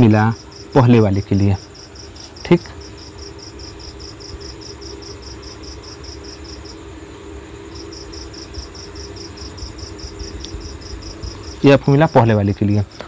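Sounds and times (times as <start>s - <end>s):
insect chirping: 0.0s - 13.0s
steady low hum: 0.0s - 13.0s.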